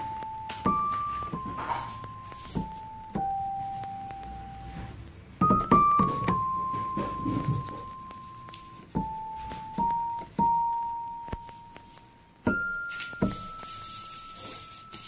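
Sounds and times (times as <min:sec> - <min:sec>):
slow piano-like keyboard melody: 0:00.0 - 0:15.0.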